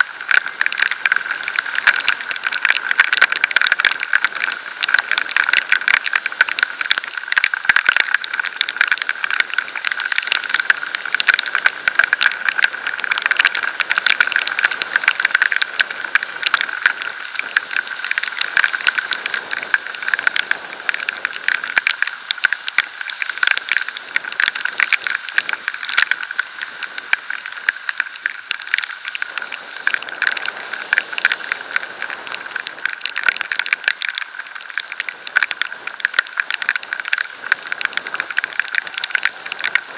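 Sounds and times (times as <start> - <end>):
raindrops ticking on camera: 0.0 - 39.9.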